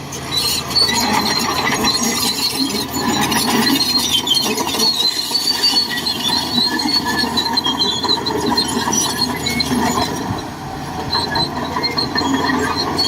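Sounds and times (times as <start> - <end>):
bulldozer working: 0.0 - 13.0
high wavering squeal: 0.2 - 13.0.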